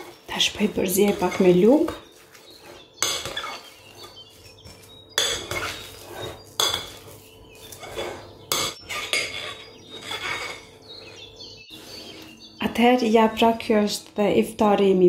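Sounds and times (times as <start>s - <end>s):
spoon scraping mashed potatoes: 0.0s - 12.1s.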